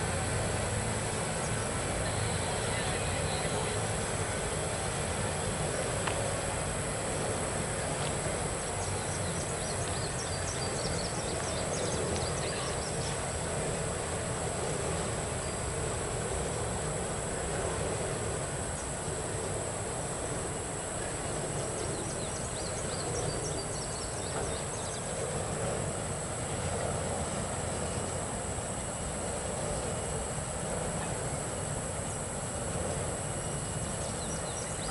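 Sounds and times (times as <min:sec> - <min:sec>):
high-pitched insect drone: 0:00.0 - 0:34.9
train cars rumbling on rails: 0:00.0 - 0:34.9.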